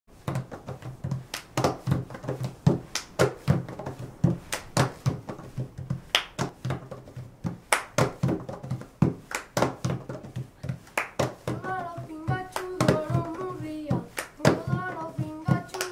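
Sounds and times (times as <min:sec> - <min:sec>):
hands drumming on plastic container: 0:00.2 - 0:15.9.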